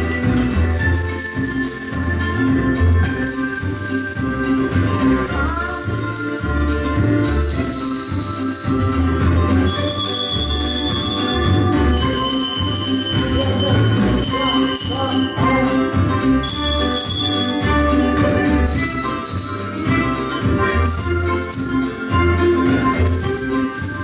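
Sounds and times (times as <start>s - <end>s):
backing music with pulsing bass: 0.0s - 24.0s
handbells ringing: 0.0s - 24.0s.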